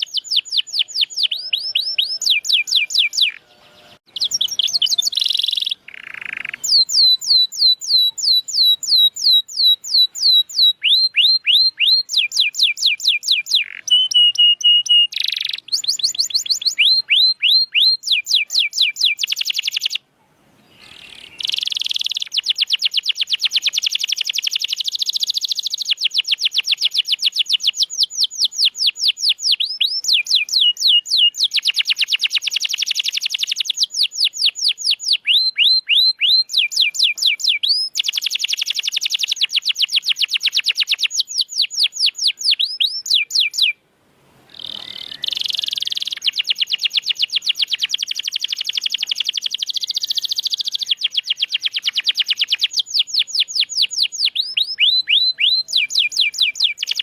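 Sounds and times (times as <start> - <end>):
canary singing trills: 0.0 - 20.0, 20.6 - 43.8, 44.5 - 57.0.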